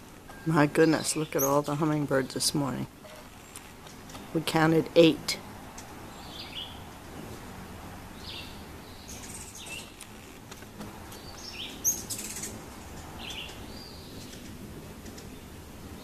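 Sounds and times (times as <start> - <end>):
hummingbirds chirping: 0.0 - 16.0.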